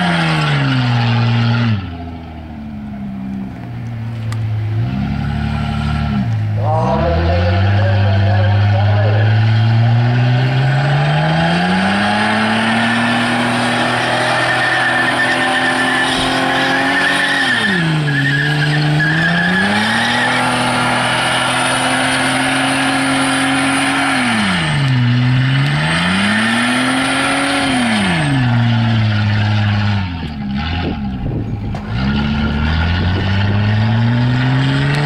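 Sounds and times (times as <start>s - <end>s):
car engine revving hard: 0.0s - 2.3s, 4.6s - 35.0s
tyres spinning and squealing: 4.8s - 35.0s.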